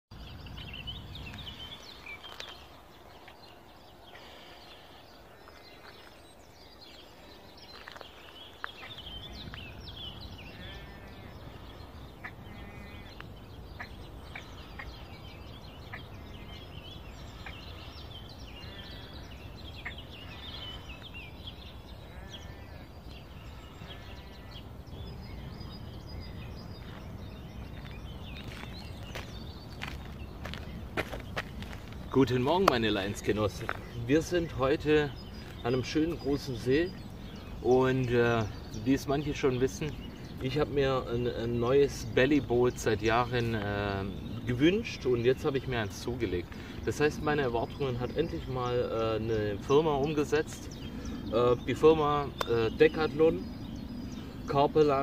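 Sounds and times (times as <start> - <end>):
many birds chirping: 0.0 - 55.0.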